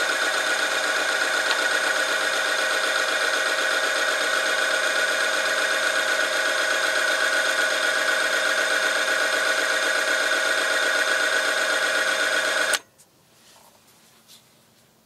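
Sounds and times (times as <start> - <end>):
testing machine grinding whine: 0.0 - 12.8.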